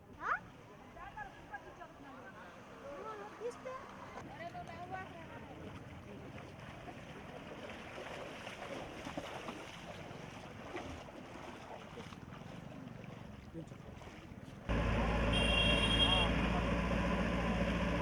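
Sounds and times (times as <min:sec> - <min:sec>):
flooded street water wash: 0:00.0 - 0:18.0.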